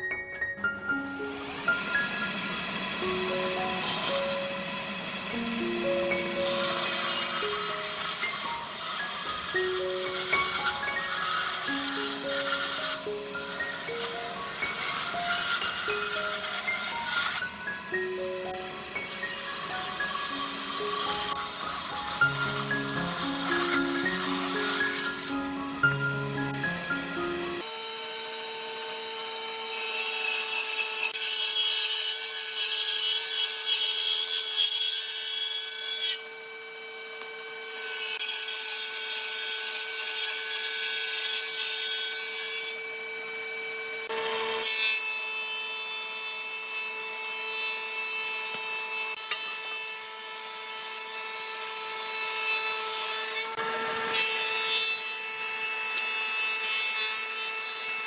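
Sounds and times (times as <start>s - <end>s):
power tool rasping wood: 0.9s - 58.0s.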